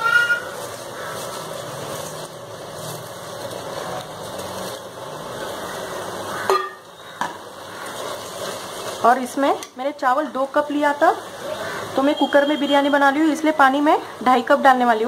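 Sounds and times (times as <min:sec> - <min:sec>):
rice rustling: 0:00.0 - 0:13.5.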